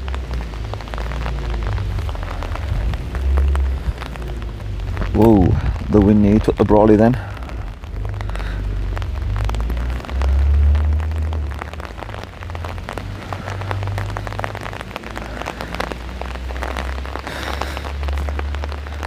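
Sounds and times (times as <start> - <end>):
rain hitting umbrella: 0.0 - 19.0
wind rumbling on microphone: 0.0 - 19.0.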